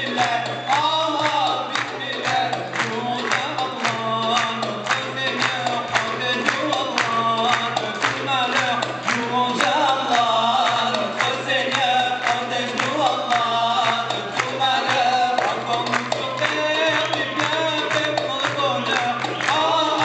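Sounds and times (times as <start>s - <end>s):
hand drum beating: 0.0s - 20.0s
men singing: 0.0s - 20.0s.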